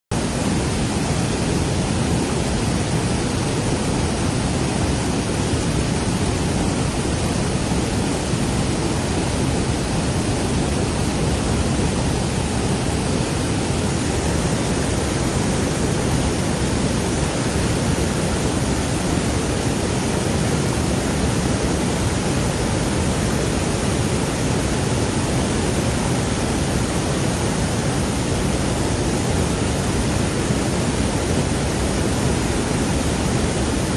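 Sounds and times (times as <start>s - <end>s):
floodwater rushing: 0.2s - 33.9s.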